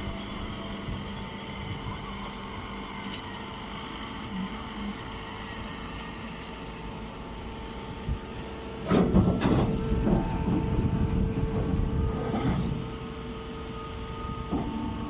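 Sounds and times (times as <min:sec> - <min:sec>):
baling machine motor hum: 0:00.0 - 0:15.0.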